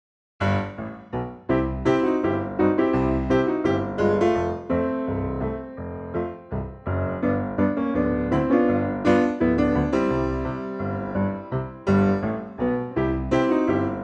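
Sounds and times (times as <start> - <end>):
bass line: 0.4 - 14.0
piano melody: 0.4 - 14.0.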